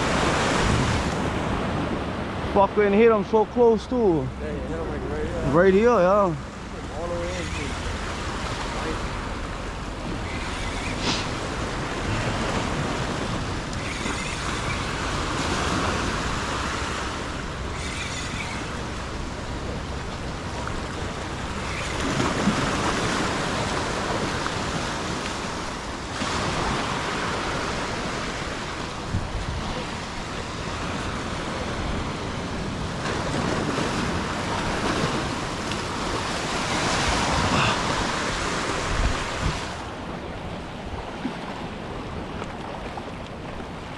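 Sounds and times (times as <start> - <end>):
wind on microphone: 0.0 - 2.5, 7.2 - 43.9
ocean surf washing ashore: 0.0 - 43.9.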